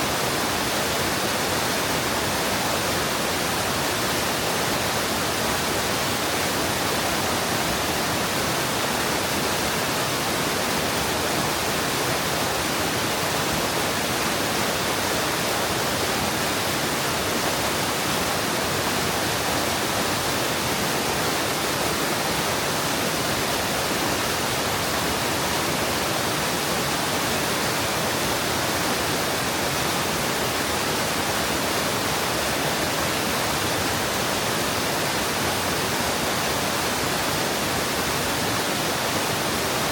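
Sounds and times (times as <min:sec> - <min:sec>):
stream water flowing into pool: 0:00.0 - 0:39.9.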